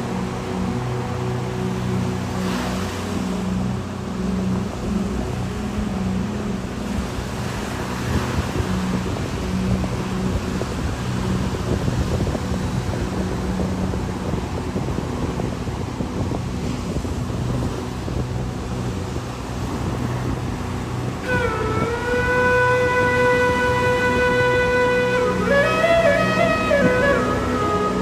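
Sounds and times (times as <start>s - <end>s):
low humming drone: 0.0s - 28.0s
ocean surf: 0.0s - 28.0s
wind buffeting microphone: 0.0s - 28.0s.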